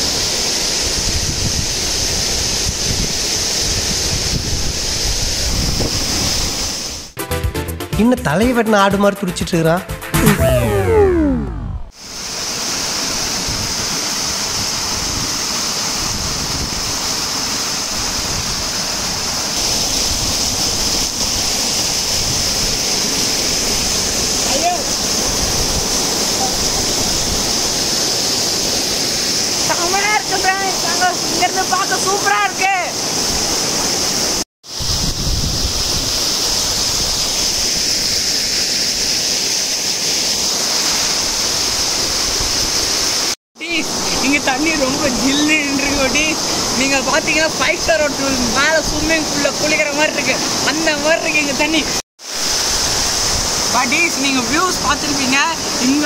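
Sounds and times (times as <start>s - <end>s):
waterfall rushing: 10.2s - 56.0s.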